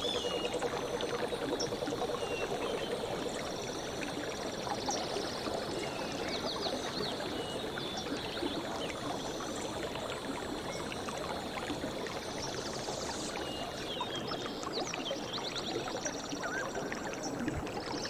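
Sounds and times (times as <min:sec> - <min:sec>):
stream running: 0:00.0 - 0:18.0.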